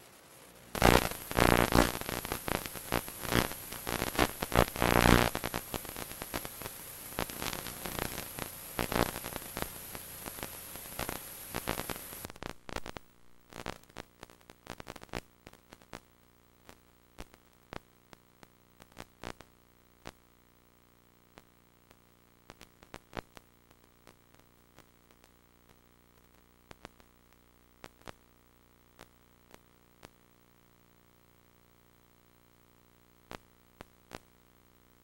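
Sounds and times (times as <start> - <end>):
videotape static hiss: 0.0 - 35.0.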